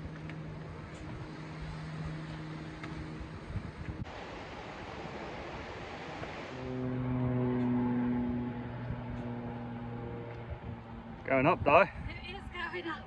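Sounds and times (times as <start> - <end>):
wind on microphone: 0.0 - 4.1, 4.9 - 13.0
steady low hum: 0.0 - 13.0.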